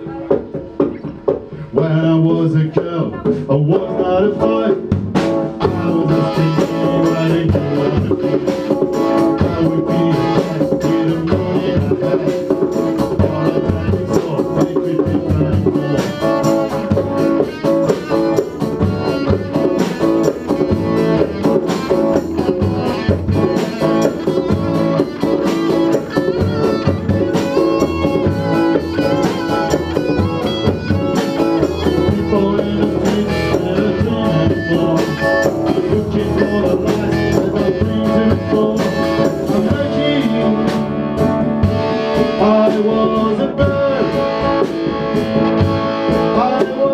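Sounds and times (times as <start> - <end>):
drums steady beat: 0.0 - 46.9
guitar: 0.0 - 46.9.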